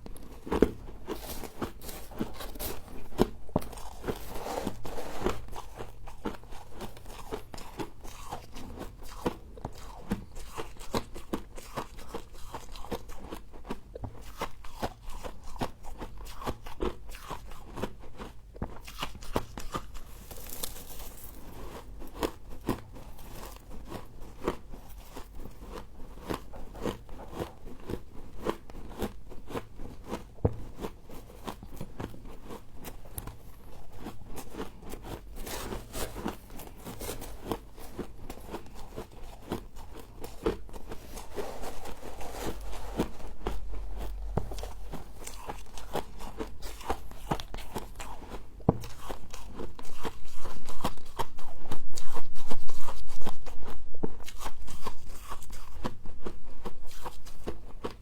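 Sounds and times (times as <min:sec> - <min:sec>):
crunching and chewing frost: 0:00.0 - 0:58.0.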